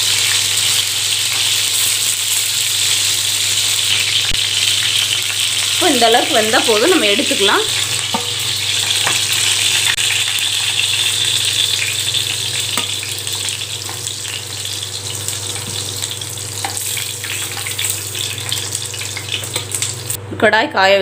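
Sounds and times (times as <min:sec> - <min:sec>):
vegetables sizzling in oil: 0:00.0 - 0:20.2.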